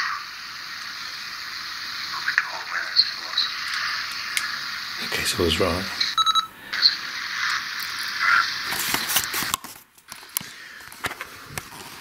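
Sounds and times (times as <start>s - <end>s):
tinny speaker playback hiss: 0.0s - 12.0s.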